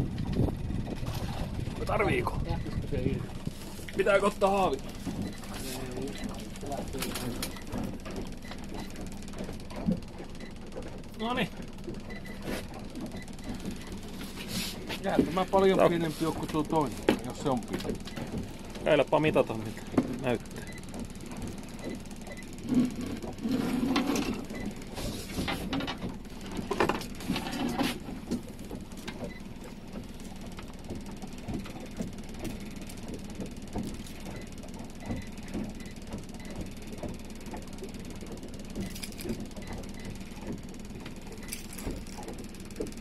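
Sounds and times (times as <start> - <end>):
outboard motor humming: 0.0 - 43.0.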